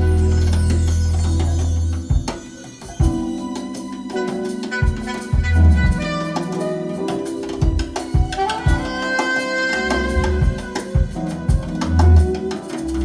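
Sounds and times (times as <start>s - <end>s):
live jazz music: 0.0s - 13.0s.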